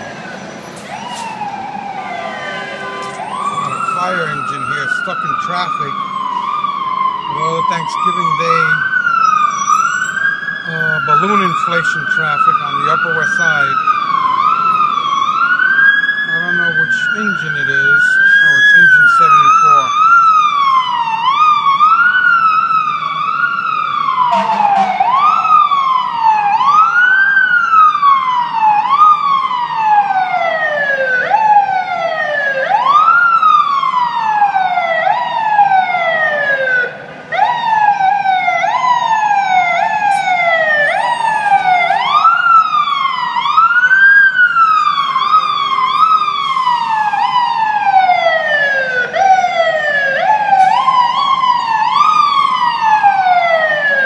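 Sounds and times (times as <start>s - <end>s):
fire engine siren wailing: 0.0s - 54.0s
traffic hum: 0.0s - 54.0s.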